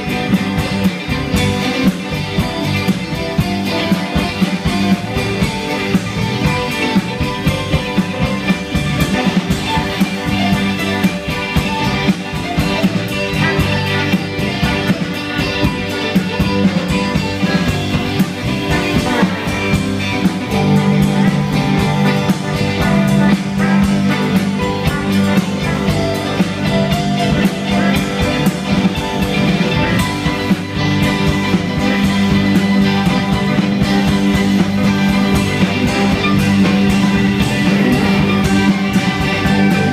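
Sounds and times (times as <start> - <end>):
heavy held bass notes: 0.0 - 39.9
live rock band playing: 0.0 - 39.9.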